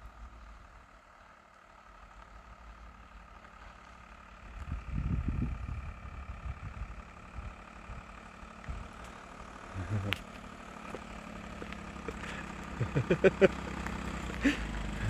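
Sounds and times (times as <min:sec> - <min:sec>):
cars idling and pulling away: 0:00.0 - 0:15.0.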